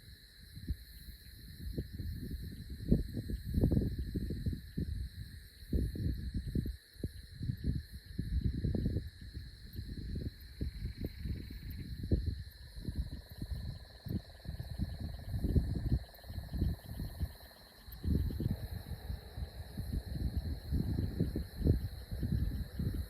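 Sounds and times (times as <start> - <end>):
insects trilling: 0.0 - 23.0
wind buffeting microphone: 1.4 - 23.0.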